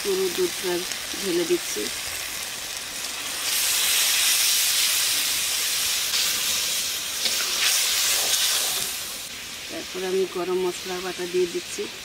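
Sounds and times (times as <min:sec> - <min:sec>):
paste sizzling in a metal pan: 0:00.0 - 0:12.0.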